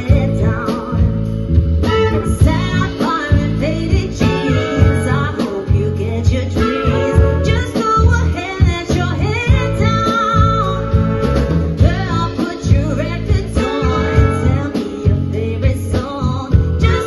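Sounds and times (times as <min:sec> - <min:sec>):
band with guitar and beat: 0:00.0 - 0:17.0
person singing: 0:00.0 - 0:17.0.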